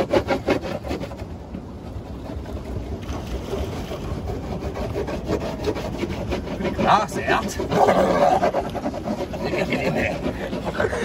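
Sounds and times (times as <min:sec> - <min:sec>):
boat engine rumble: 0:00.0 - 0:11.0
wax rubbing on surfboard: 0:00.0 - 0:11.0.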